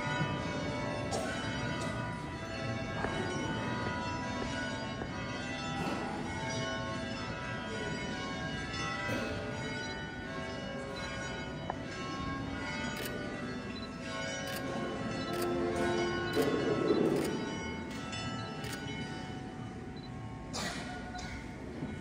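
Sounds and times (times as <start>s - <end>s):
church bells ringing: 0.0s - 20.6s.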